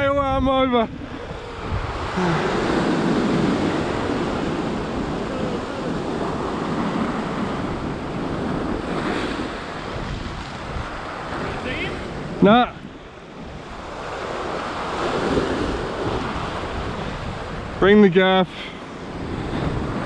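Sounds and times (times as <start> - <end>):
ocean swell churning on rocks: 0.0 - 20.0
wind buffeting microphone: 0.0 - 20.0.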